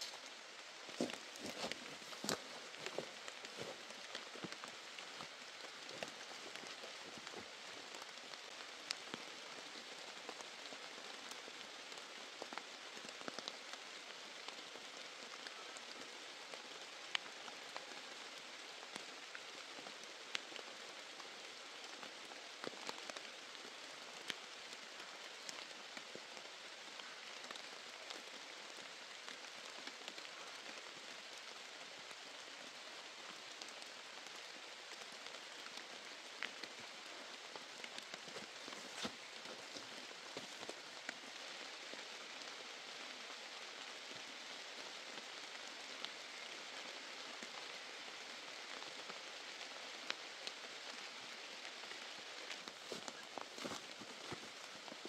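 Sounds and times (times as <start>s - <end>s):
sharp raindrops: 0.0s - 55.0s
steady rain falling: 0.0s - 55.0s.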